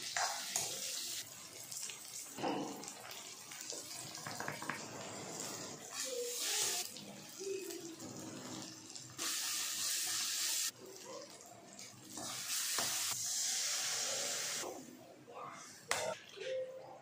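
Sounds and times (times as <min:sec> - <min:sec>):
kitchen tap running: 0:00.0 - 0:14.6.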